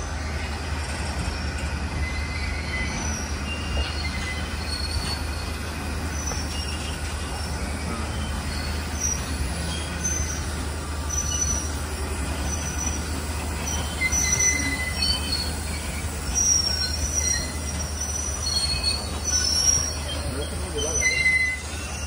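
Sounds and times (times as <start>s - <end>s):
train rumbling on rails: 0.0s - 22.0s
high-pitched wheel squeals: 1.9s - 22.0s.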